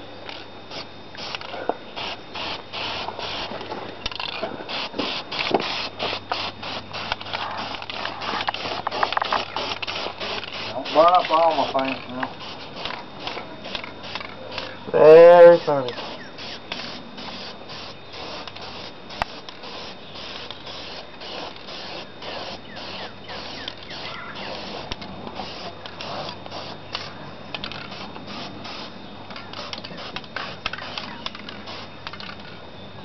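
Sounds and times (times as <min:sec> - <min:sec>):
spray can ball rattling: 0:04.1 - 0:14.7, 0:15.9 - 0:32.5.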